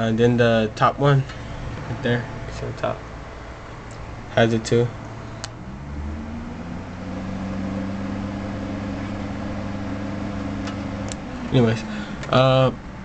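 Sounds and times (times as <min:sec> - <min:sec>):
computer cooling fans humming: 0:00.0 - 0:13.0.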